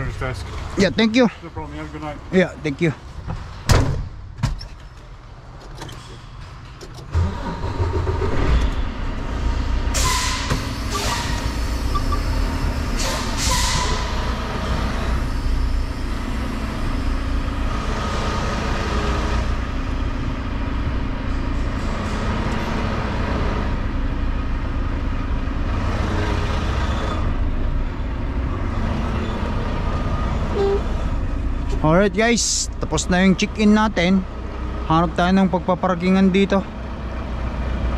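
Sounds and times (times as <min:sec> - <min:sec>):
diesel truck engine rumbling: 0:00.0 - 0:37.9.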